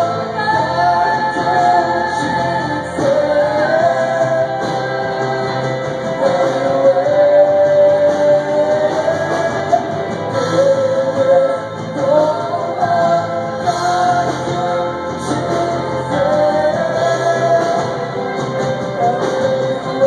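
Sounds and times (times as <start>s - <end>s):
acoustic guitar: 0.0s - 20.0s
electric guitar: 0.0s - 20.0s
people singing long notes: 0.0s - 20.0s.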